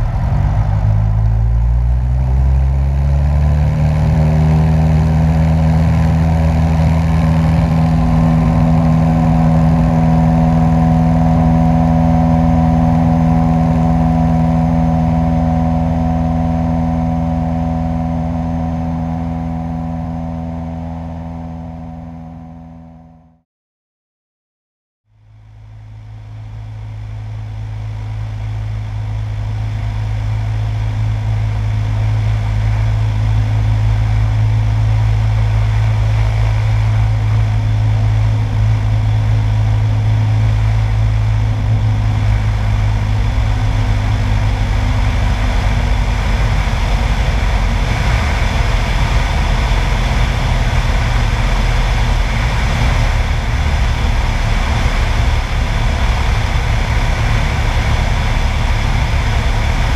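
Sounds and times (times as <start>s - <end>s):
wind rush over airframe: 0.0s - 19.4s, 27.6s - 59.9s
light airplane engine droning: 0.0s - 23.4s, 25.1s - 59.9s.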